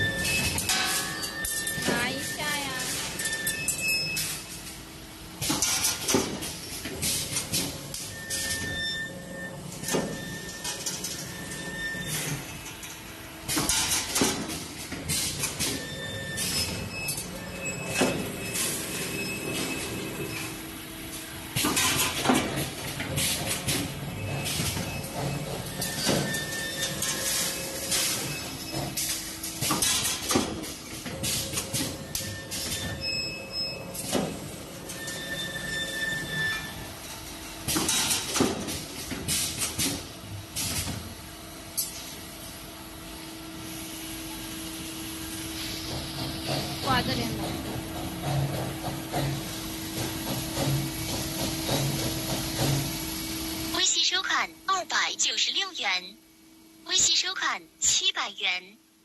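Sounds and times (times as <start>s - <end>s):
mechanical clatter and hiss: 0.2s - 53.7s.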